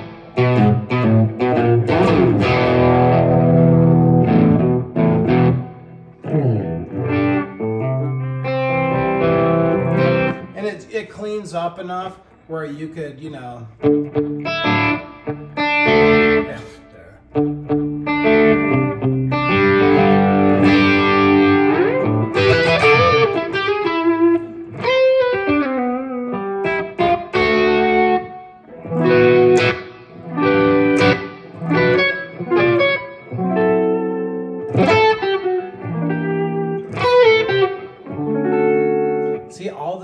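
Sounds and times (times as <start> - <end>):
overdriven electric guitar: 0.0 - 10.6, 13.8 - 39.6.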